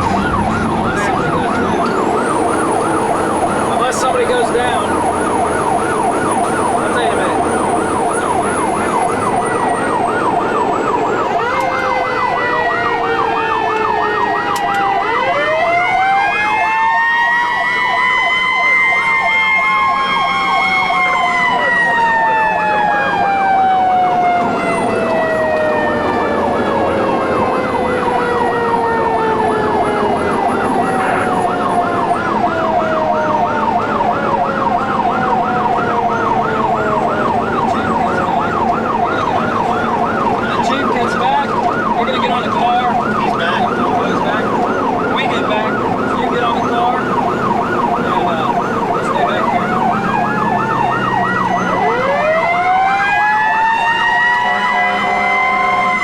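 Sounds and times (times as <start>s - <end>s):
electronic siren yelp: 0.0s - 56.0s
wailing siren: 0.0s - 56.0s.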